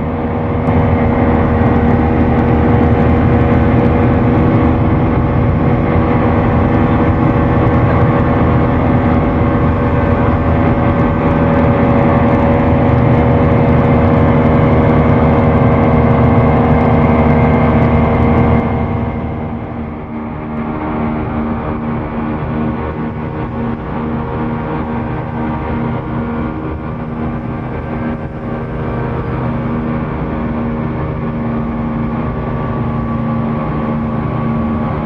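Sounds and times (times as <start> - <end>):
outboard engine droning: 0.0 - 35.0.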